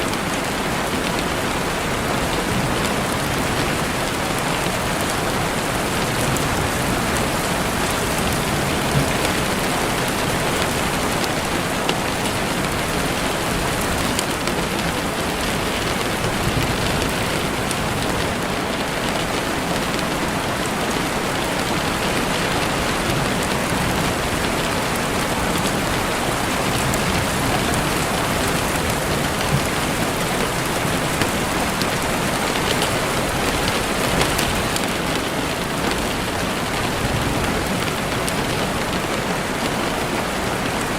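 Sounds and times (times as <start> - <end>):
heavy rain on a window: 0.0 - 40.9.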